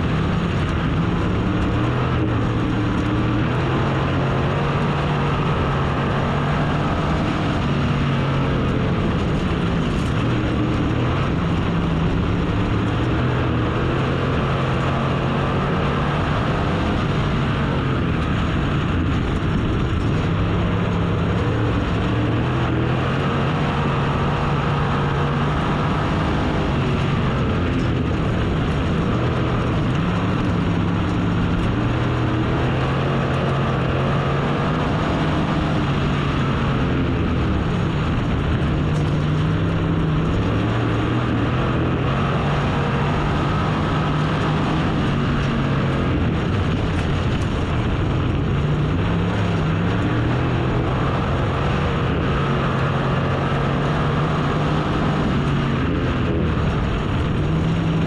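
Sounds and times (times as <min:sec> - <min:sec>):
race car engine roaring: 0:00.0 - 0:58.0.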